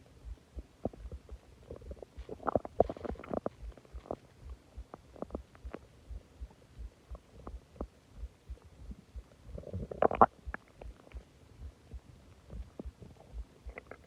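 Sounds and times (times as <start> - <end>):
stomach gurgling and rumbling: 0.0 - 14.0.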